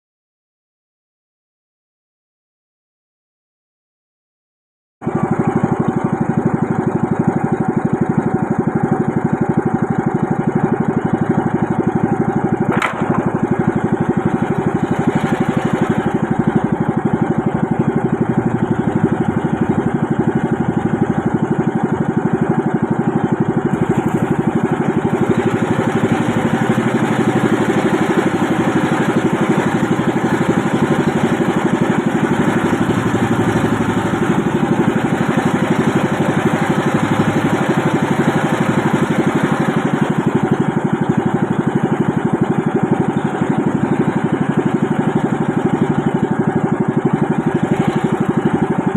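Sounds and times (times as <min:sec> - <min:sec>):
small boat engine running: 0:05.0 - 0:48.9.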